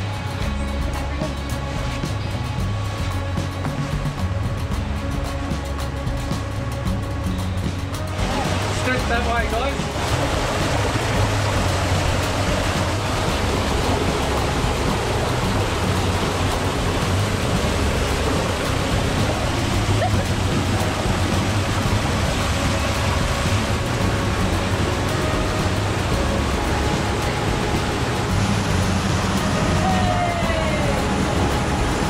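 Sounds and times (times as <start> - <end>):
stream splashing over boulders: 0.0 - 32.0.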